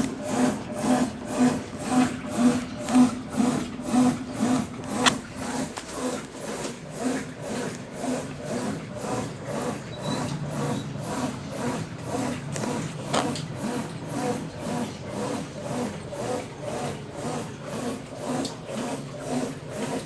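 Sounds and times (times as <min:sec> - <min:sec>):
washing machine agitating: 0:00.0 - 0:20.0.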